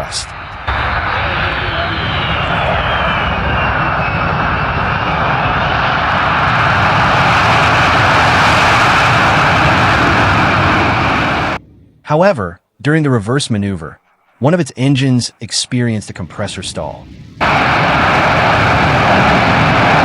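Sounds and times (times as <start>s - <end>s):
jet engine roar: 0.0s - 11.8s, 14.0s - 20.0s
high turbine whine: 0.0s - 11.9s, 14.0s - 20.0s.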